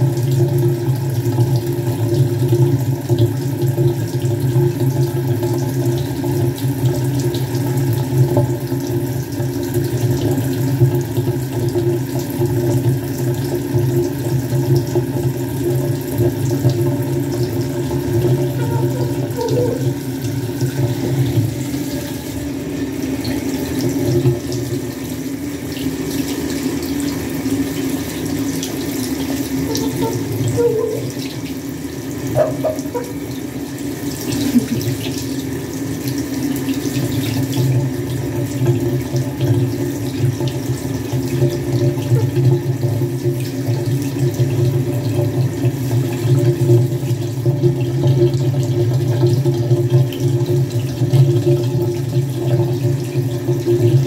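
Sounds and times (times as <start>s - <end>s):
tap water pouring and splashing: 0.0s - 54.0s.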